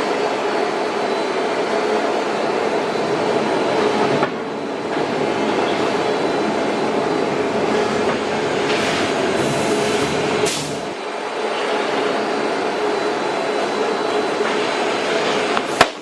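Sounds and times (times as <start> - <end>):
cnc router machining: 0.0 - 15.8.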